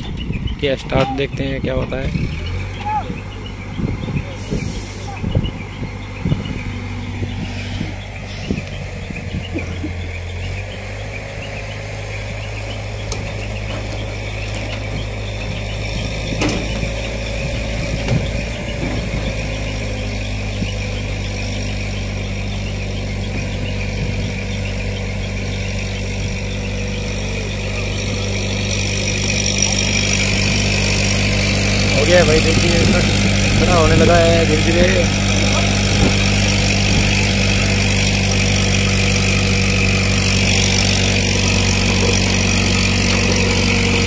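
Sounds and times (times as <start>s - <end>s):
diesel engine running under load: 0.0s - 44.0s.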